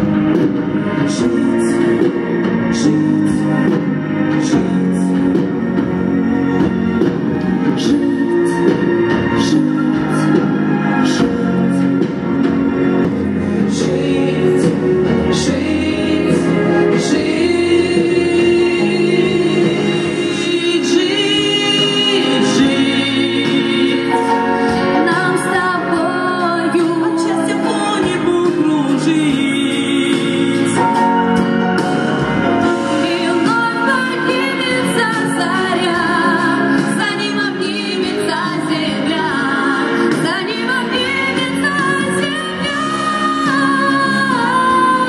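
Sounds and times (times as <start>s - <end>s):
musical backing track: 0.0s - 45.0s
two women singing: 0.0s - 45.0s.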